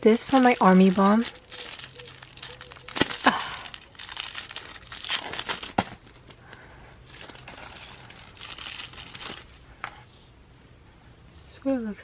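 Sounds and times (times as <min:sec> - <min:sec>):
packaging rustling: 0:00.0 - 0:09.6.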